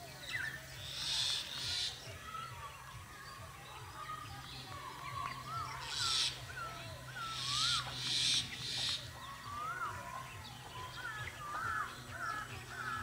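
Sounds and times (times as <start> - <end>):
birds whistling: 0.0 - 13.0
harsh hissing bird calls: 0.0 - 13.0.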